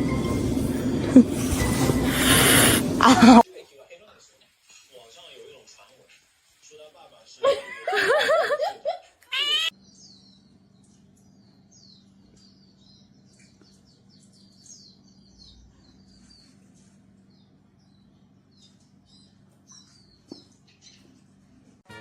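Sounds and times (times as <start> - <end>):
faint birds chirping: 4.2 - 21.8.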